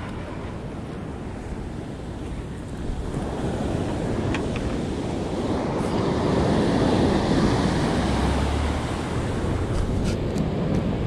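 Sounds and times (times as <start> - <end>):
sea surf breaking: 0.0 - 11.0
wind buffeting microphone: 0.0 - 11.0.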